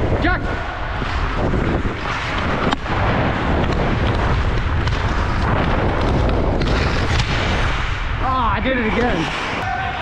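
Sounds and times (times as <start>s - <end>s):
wind rumble on microphone: 0.0s - 10.0s
skate blades scraping ice: 0.6s - 9.7s.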